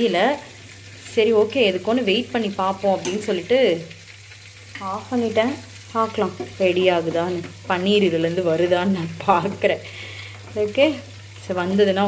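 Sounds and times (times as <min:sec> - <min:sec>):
butter bubbling and sizzling: 0:00.0 - 0:12.0.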